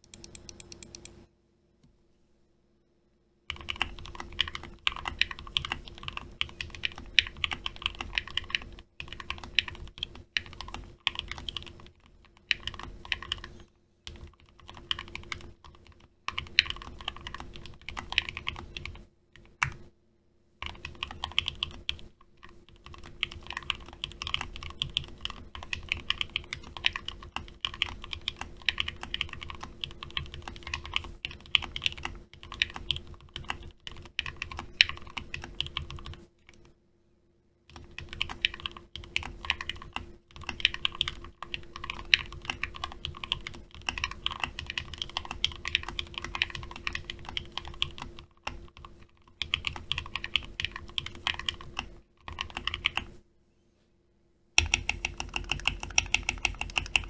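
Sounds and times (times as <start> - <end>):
typing on mechanical keyboard: 3.5 - 19.8, 20.6 - 36.7, 37.7 - 53.1, 54.6 - 57.0.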